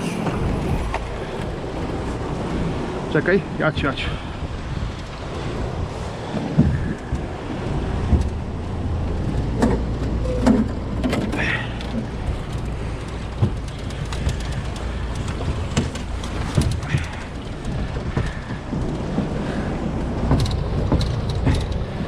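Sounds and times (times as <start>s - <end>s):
gear knocking and clicking: 0.0s - 3.3s, 3.9s - 22.0s
steady low rumble: 0.0s - 22.0s.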